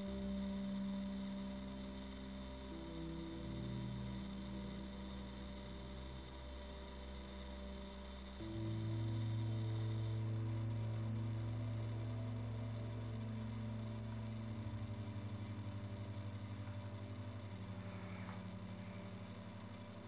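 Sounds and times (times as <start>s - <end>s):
ambient droning background music: 0.0s - 20.0s.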